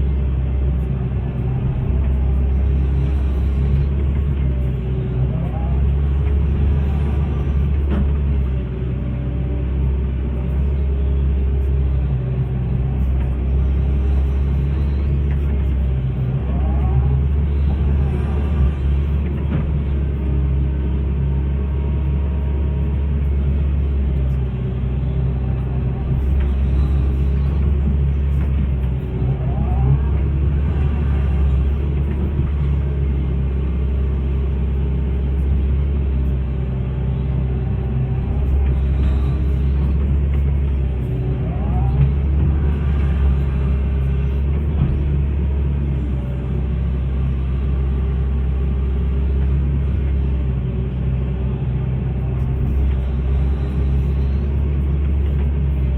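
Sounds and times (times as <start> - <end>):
excavator diesel engine rumbling: 0.0 - 55.9.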